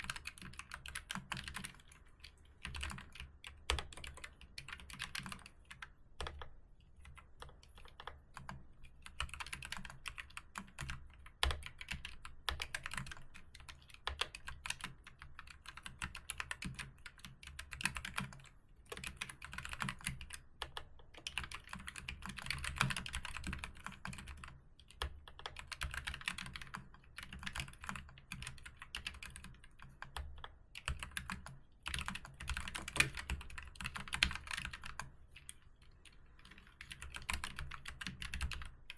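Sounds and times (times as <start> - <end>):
typing on a keyboard: 0.0 - 38.9.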